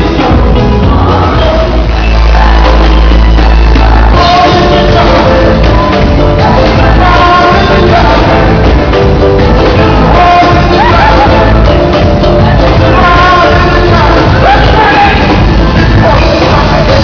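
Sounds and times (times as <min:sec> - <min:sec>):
heavy bass line: 0:00.0 - 0:17.0
live soca band: 0:00.0 - 0:17.0
man singing: 0:00.0 - 0:17.0.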